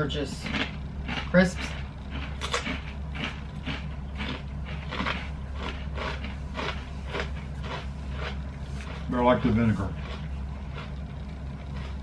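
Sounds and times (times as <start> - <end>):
crunching potato crisps: 0.0 - 12.0.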